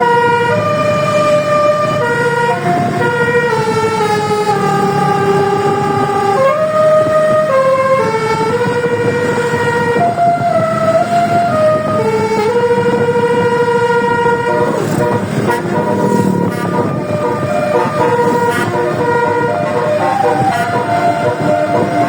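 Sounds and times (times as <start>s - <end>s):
musical air horn playing a tune: 0.0s - 22.0s
steady low rumble: 0.6s - 22.0s.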